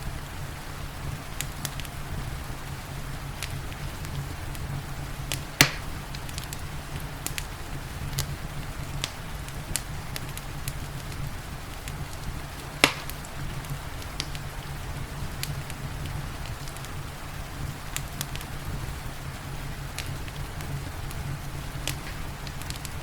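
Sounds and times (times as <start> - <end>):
rain hiss: 0.0 - 23.0
wood fire crackling: 0.0 - 23.0.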